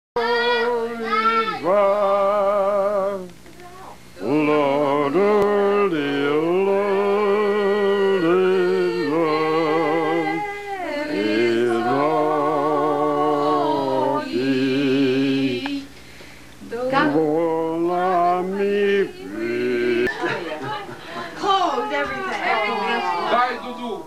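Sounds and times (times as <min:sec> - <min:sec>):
voices singing slow song: 0:00.2 - 0:23.6.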